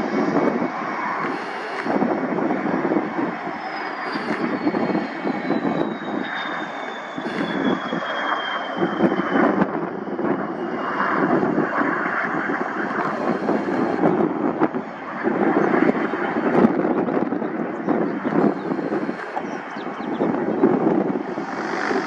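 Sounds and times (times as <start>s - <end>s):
aeroplane flying past: 0.0s - 22.0s.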